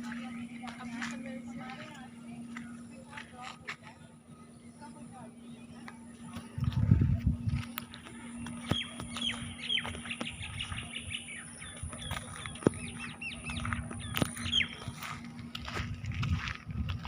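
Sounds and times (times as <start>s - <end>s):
birds chirping: 0.0s - 16.2s
low steady hum: 0.0s - 17.0s.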